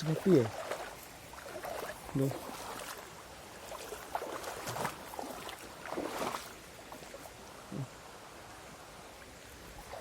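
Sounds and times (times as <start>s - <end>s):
water splashing and swishing: 0.0s - 7.6s, 8.3s - 10.0s
stream rushing: 0.0s - 10.0s.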